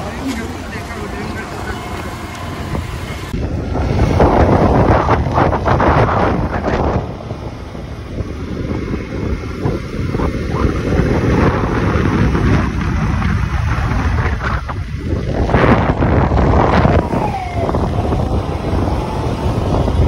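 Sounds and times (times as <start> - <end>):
road and vehicle noise: 0.0 - 20.0
wind buffeting microphone: 0.0 - 20.0.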